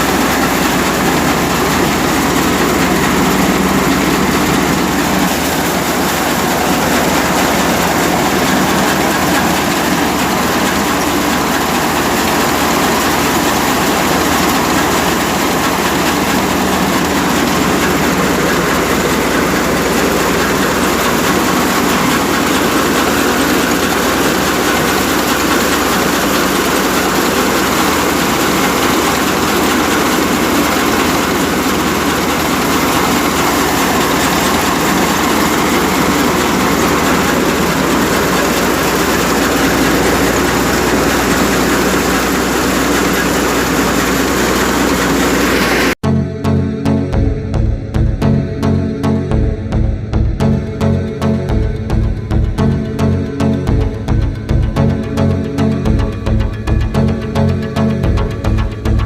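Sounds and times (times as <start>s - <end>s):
threshing machine running: 0.0s - 59.0s.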